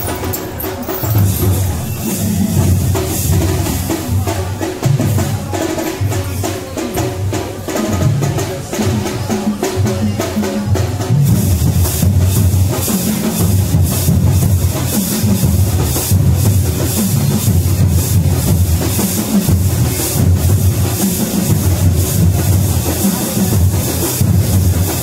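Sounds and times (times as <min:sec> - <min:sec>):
music with heavy drum beat: 0:00.0 - 0:25.0.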